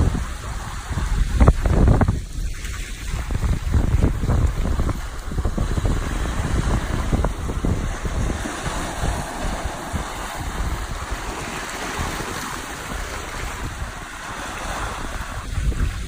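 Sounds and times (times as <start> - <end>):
sea surf washing on shore: 0.0 - 16.0
wind buffeting microphone: 0.0 - 16.0.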